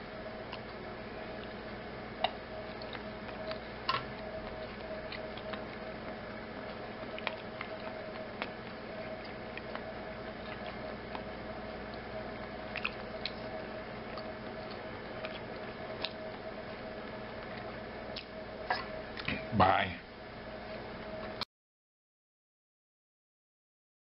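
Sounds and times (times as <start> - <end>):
kitchen hum: 0.0 - 21.4.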